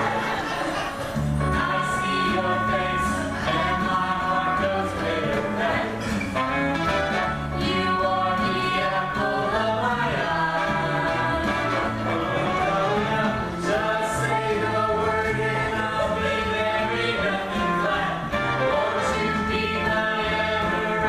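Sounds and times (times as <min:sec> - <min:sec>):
group of voices singing: 0:00.0 - 0:21.0
instrumental accompaniment with bass line: 0:00.0 - 0:21.0.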